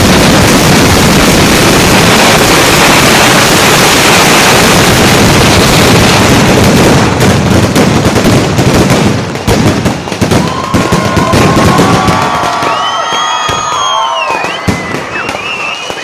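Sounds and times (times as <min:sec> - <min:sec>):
firecracker cracks: 0:00.0 - 0:16.0
fireworks blasts: 0:00.0 - 0:16.0
shrill whistling fireworks: 0:00.0 - 0:16.0.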